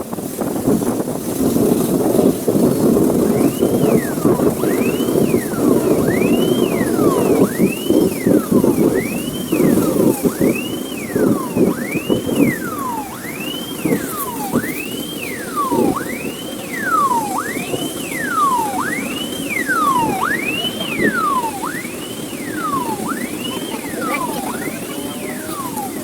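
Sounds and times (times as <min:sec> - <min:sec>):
loud steady noisy rumble: 0:00.0 - 0:26.0
emergency siren wailing: 0:01.3 - 0:26.0.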